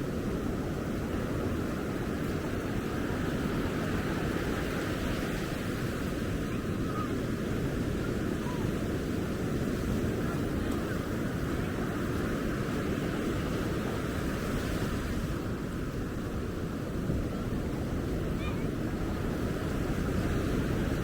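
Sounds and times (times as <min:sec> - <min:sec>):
ocean surf washing: 0:00.0 - 0:21.0
wind: 0:00.0 - 0:21.0.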